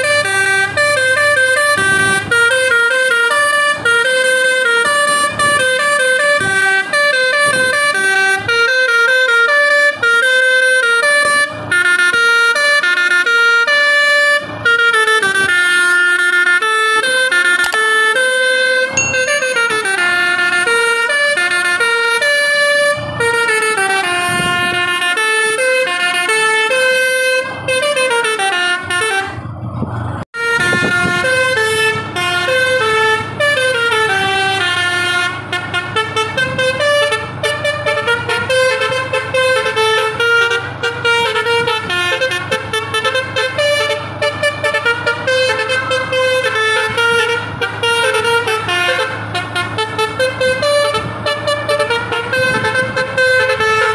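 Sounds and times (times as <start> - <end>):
bus air horn playing melody: 0.0 - 29.6, 30.4 - 53.9.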